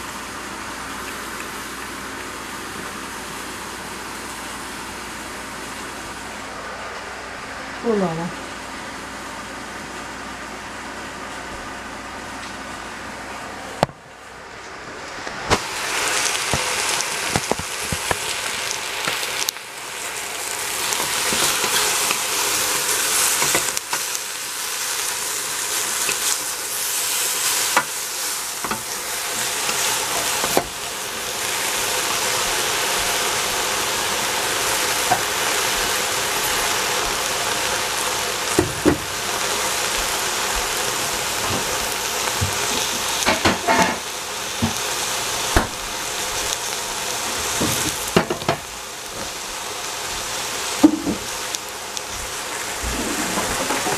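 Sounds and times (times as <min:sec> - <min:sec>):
vegetables sizzling in a pot: 0:00.0 - 0:53.9.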